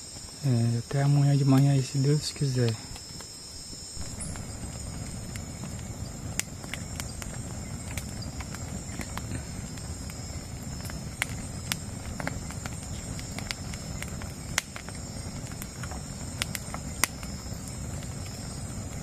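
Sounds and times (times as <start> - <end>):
campfire crackling and popping: 0.0 - 19.0
night insects chorus: 0.0 - 19.0.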